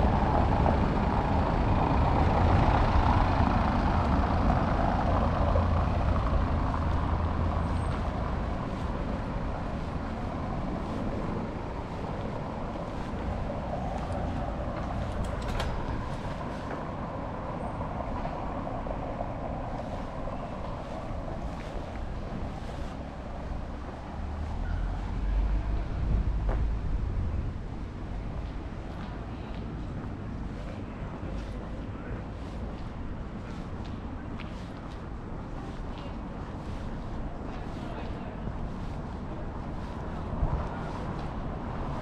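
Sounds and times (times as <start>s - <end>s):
large vehicle rumbling: 0.0s - 42.0s
street traffic noise: 0.0s - 42.0s.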